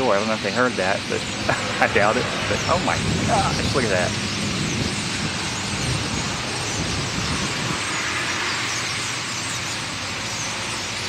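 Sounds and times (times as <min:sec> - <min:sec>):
flock of birds chattering: 0:00.0 - 0:11.0
low rumble of road traffic: 0:00.0 - 0:11.0.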